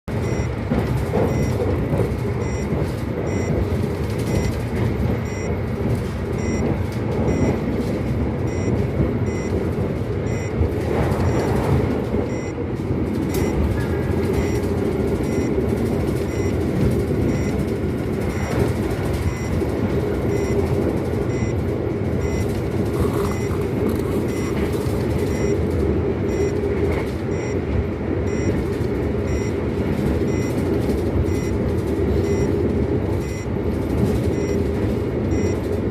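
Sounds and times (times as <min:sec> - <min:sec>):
train wheels rumbling on rails: 0:00.1 - 0:35.9.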